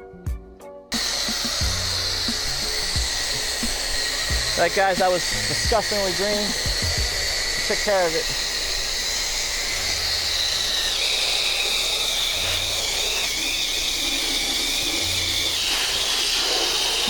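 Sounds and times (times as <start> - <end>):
pressure washer spraying water: 0.9 - 17.0
wavering high whistle: 0.9 - 17.0.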